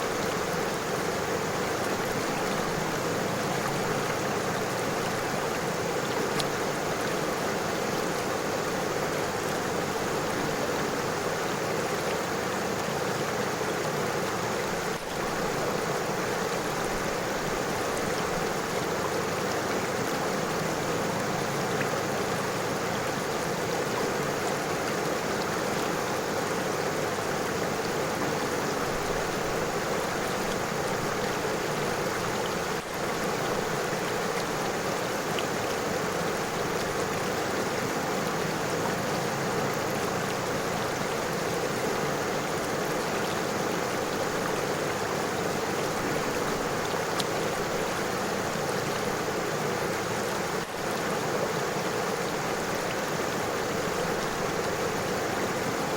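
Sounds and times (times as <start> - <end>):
river flowing over stones: 0.0 - 55.9.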